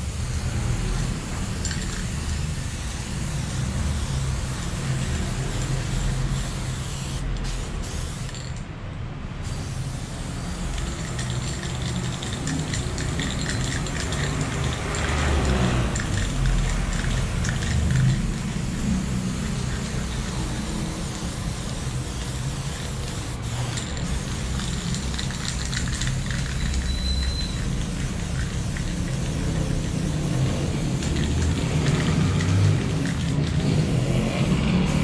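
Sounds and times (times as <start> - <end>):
spray paint can hissing: 0.0 - 8.7, 9.4 - 35.0.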